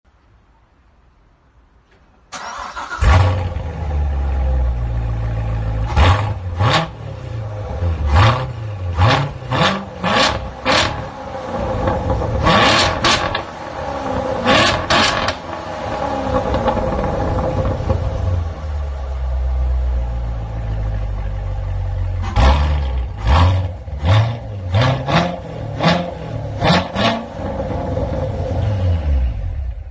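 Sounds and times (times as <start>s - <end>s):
car engine idling and revving: 2.5s - 29.9s.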